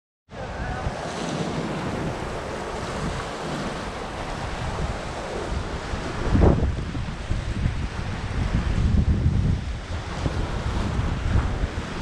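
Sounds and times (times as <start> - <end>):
wind buffeting microphone: 0.3 - 12.0.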